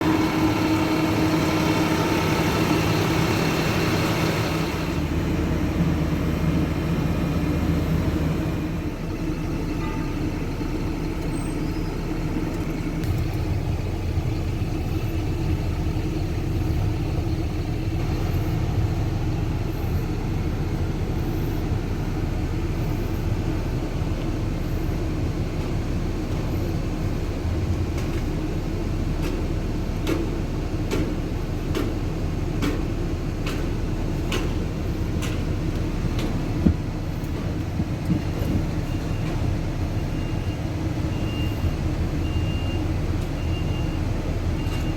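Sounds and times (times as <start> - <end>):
diesel engine deep rumble: 0.0 - 44.9.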